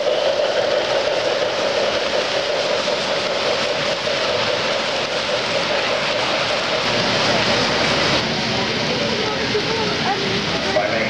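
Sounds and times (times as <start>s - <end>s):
model train wheels on rails: 0.0s - 11.0s
steady hum: 0.0s - 11.0s.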